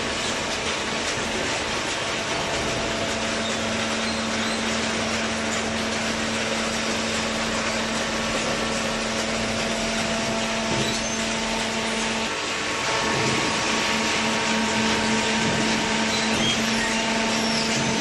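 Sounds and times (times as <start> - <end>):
baling press machine drone: 0.0 - 18.0.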